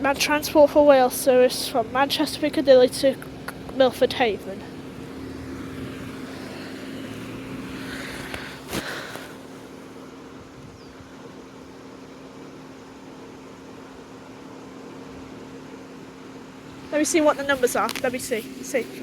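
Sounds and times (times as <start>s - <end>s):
vehicle humming: 0.0s - 19.0s.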